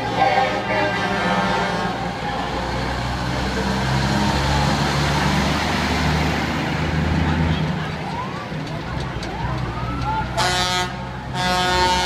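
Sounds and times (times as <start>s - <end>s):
truck engine passing by: 0.0s - 12.0s.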